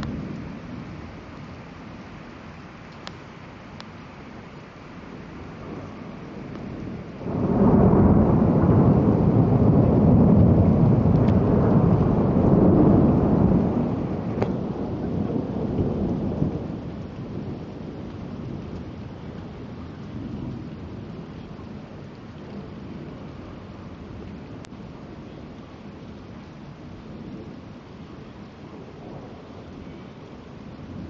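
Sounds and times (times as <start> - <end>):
steady rain: 0.0 - 31.0
thunder rumbling: 5.0 - 25.6, 26.7 - 31.0.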